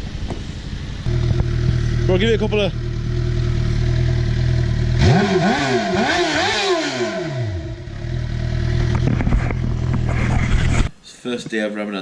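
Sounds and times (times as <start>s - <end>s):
car engine idling and revving: 0.0s - 10.9s.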